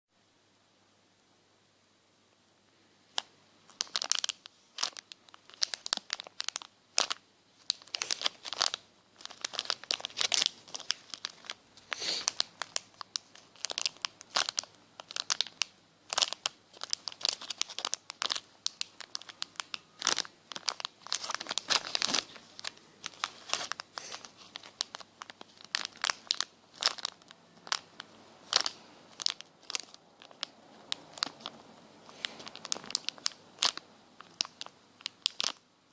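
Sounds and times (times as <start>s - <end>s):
foam toys crinkling: 3.1s - 35.6s.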